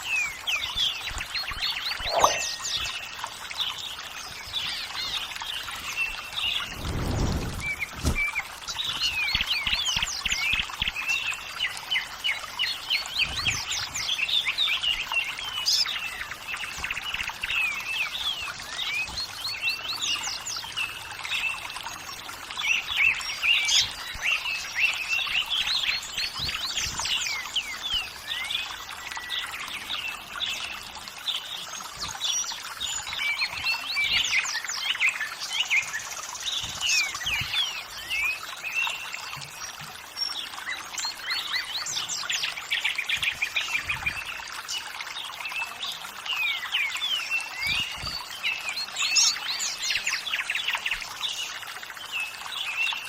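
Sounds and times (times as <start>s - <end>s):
birds chirping and singing: 0.0s - 53.0s
water trickling: 0.0s - 53.0s.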